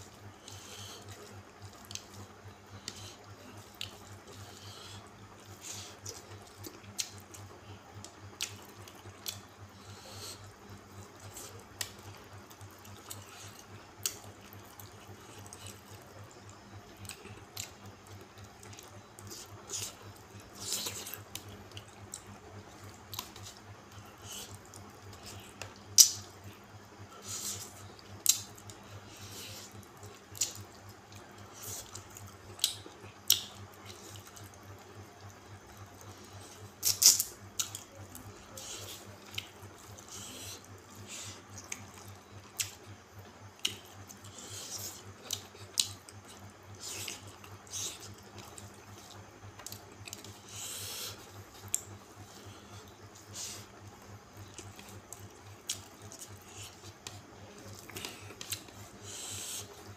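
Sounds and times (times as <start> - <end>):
steady low hum: 0.0 - 59.9
wet chewing and lip-smacking: 0.2 - 59.9.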